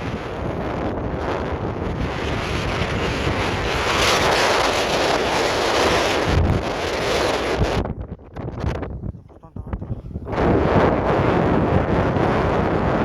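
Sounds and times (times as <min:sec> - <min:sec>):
strong gusting wind: 0:00.0 - 0:13.0
wind buffeting the microphone: 0:00.0 - 0:13.0.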